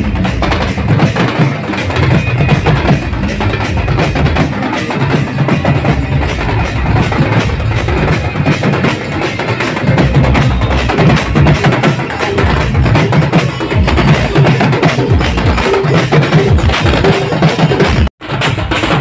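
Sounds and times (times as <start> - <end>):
drum band playing: 0.0 - 19.0.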